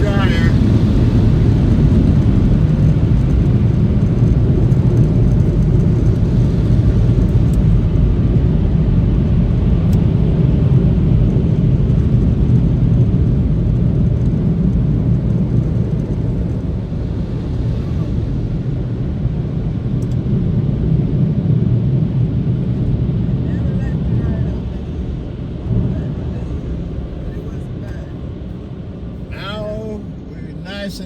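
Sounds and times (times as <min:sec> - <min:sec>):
car wash machinery rushing rumble: 0:00.0 - 0:31.0.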